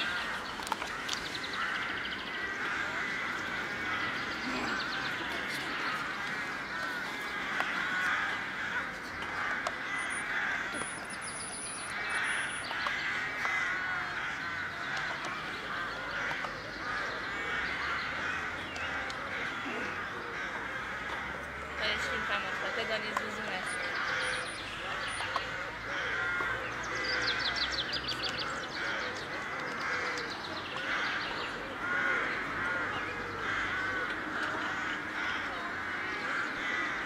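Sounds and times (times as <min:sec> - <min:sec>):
crows cawing: 0:00.0 - 0:37.0.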